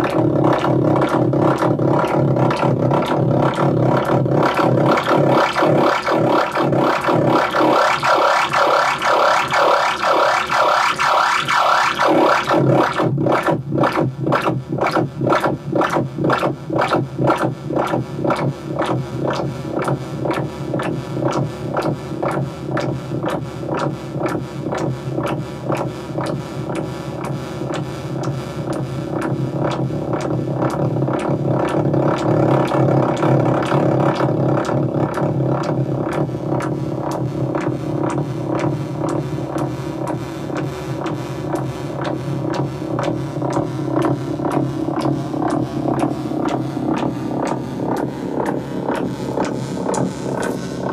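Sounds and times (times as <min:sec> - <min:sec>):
modular synthesizer filter sweeps: 0:00.0 - 0:50.9
sharp percussive ticks: 0:00.0 - 0:50.9.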